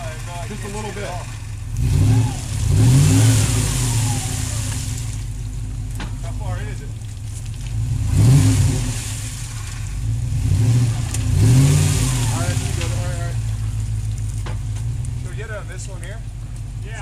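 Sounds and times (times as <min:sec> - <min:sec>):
car engine revving: 0:00.0 - 0:17.0
tyres spinning in mud: 0:00.0 - 0:17.0.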